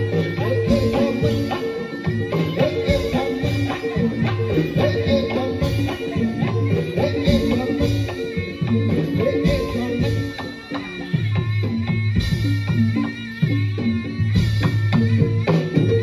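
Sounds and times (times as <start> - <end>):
drum strokes: 0.0 - 16.0
struck metal percussion ringing: 0.0 - 16.0.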